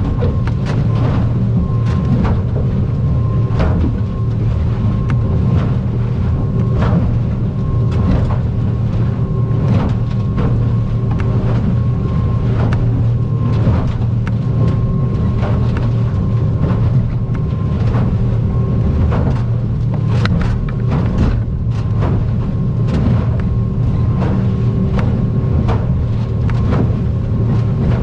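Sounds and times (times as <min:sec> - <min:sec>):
boat engine drone: 0:00.0 - 0:28.0
hull knocking and splashing: 0:00.0 - 0:28.0.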